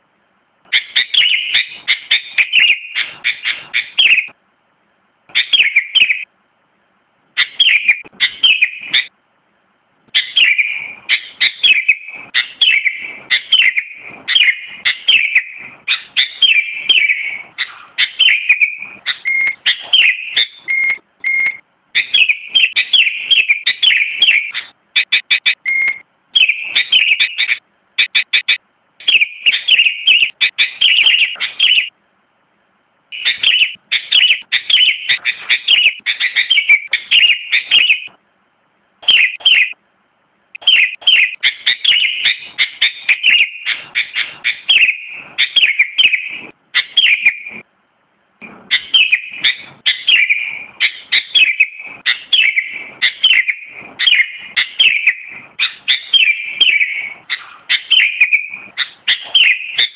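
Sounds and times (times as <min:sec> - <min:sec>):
bird chirping song: 0:00.7 - 0:04.4, 0:05.3 - 0:06.4, 0:07.3 - 0:09.2, 0:10.1 - 0:32.0, 0:33.1 - 0:38.2, 0:39.0 - 0:39.8, 0:40.6 - 0:47.7, 0:48.4 - 0:59.9.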